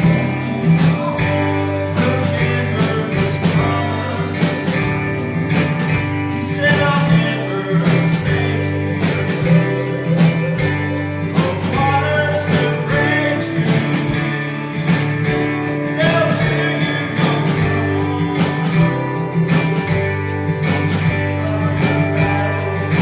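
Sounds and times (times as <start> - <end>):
person singing: 0.0 - 20.0, 20.9 - 23.0
band playing gospel song: 0.0 - 23.0
guitar: 0.0 - 23.0.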